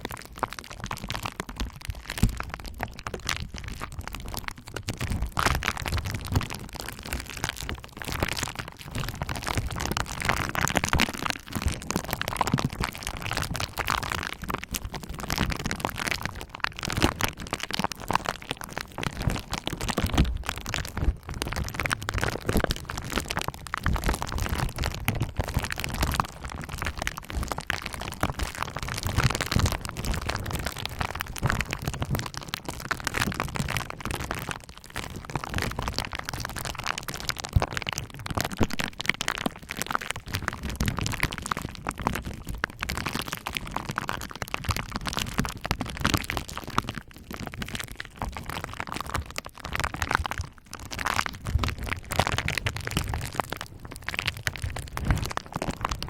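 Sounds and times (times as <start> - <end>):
bubble wrap popping: 1.0 - 56.0.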